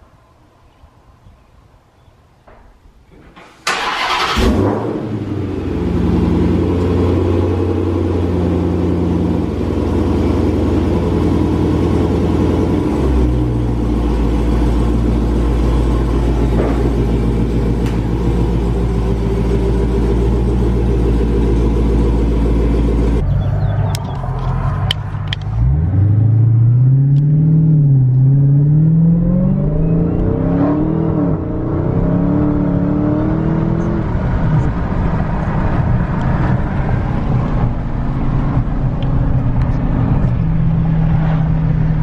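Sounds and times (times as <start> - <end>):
car engine starting and idling: 3.6 - 42.0.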